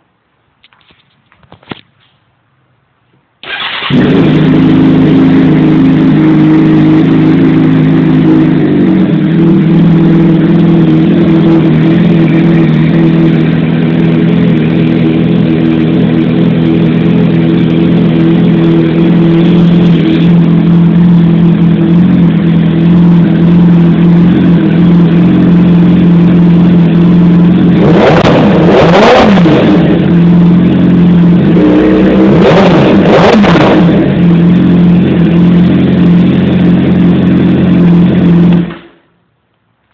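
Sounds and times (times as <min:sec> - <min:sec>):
engine revving from throttle blips: 0:03.4 - 0:38.8
motorcycle engine idling loudly: 0:03.8 - 0:32.2, 0:32.8 - 0:38.8.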